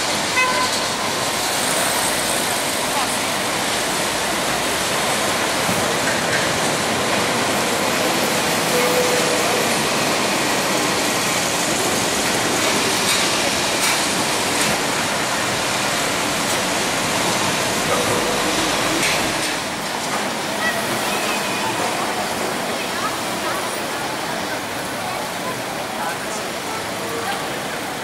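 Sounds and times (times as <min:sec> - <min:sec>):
street ambience hiss: 0:00.0 - 0:28.0
tram moving: 0:00.0 - 0:28.0.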